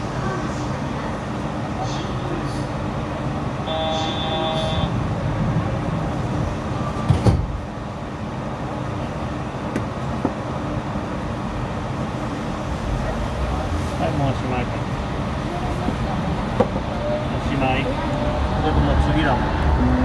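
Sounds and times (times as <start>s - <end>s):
train running low rumble: 0.0s - 20.0s.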